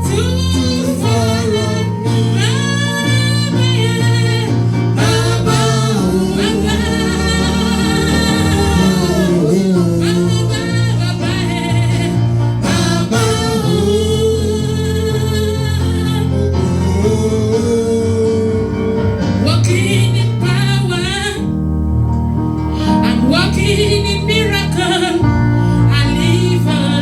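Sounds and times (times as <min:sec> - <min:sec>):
gospel singing: 0:00.0 - 0:21.6, 0:22.7 - 0:27.0
instrumental accompaniment with bass: 0:00.0 - 0:27.0.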